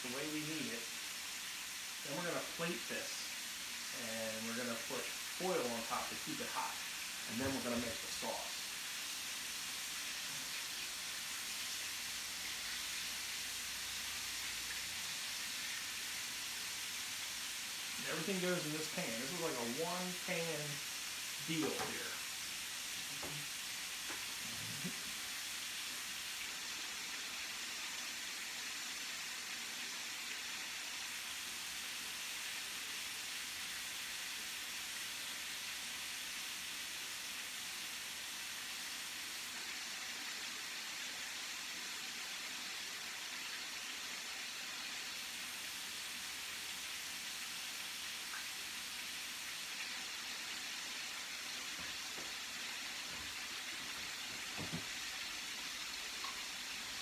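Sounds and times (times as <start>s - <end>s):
chicken sizzling in a skillet: 0.0s - 57.0s.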